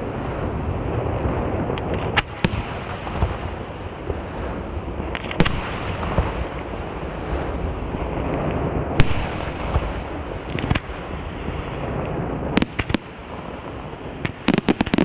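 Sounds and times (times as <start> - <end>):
firework sharp cracks: 0.0 - 15.0
firework shells booming: 1.7 - 7.6, 8.2 - 11.2, 11.8 - 15.0.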